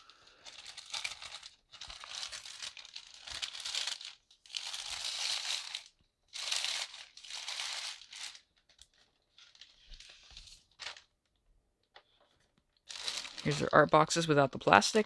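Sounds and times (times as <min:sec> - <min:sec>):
plastic bag crinkling: 0:00.0 - 0:11.1, 0:12.4 - 0:14.2.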